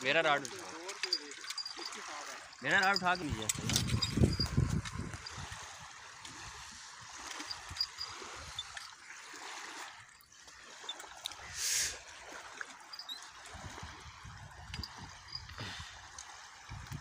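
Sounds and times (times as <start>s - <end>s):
small waves lapping on shore: 0.0s - 17.0s.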